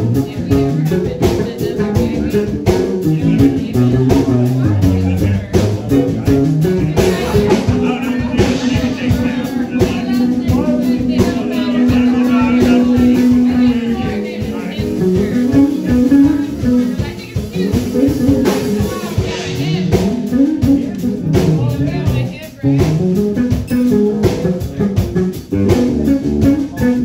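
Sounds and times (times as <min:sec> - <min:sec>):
drum kit: 0:00.0 - 0:27.0
electric guitar: 0:00.0 - 0:27.0
saxophone melody: 0:00.0 - 0:27.0.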